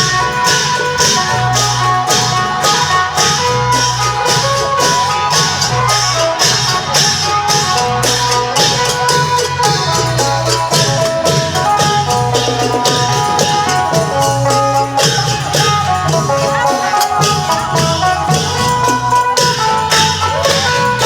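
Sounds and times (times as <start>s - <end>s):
long drums beating: 0.0s - 21.0s
plucked lute melody: 0.0s - 21.0s
small cymbals: 0.0s - 21.0s.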